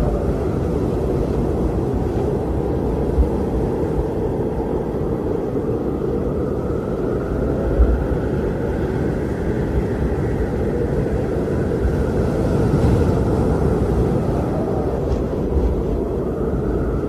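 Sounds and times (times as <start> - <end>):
strong wind blowing: 0.0 - 17.0.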